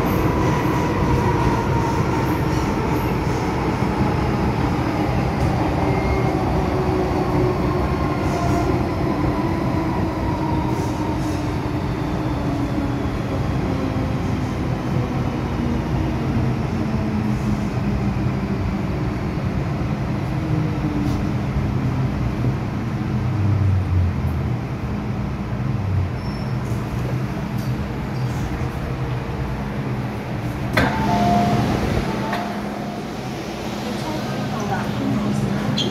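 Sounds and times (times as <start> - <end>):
train wheels rumbling on rail: 0.0 - 35.9.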